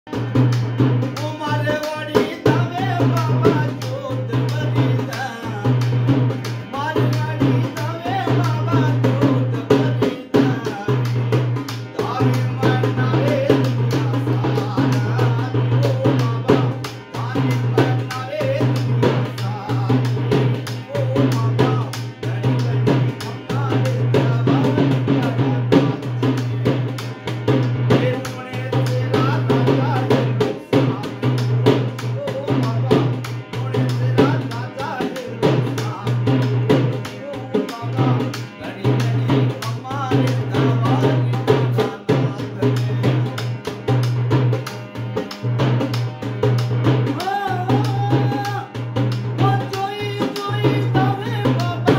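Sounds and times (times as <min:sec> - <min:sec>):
harmonium: 0:00.1 - 0:51.9
man singing: 0:00.1 - 0:51.9.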